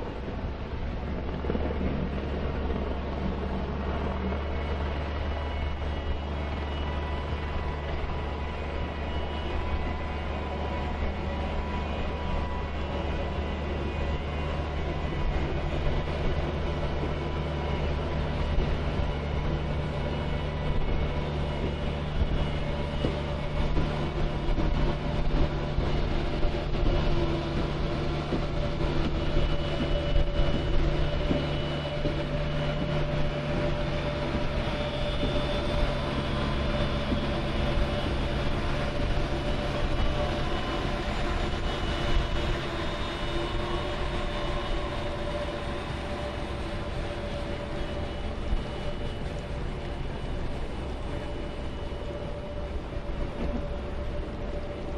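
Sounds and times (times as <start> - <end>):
deep engine hum: 0.0 - 54.9.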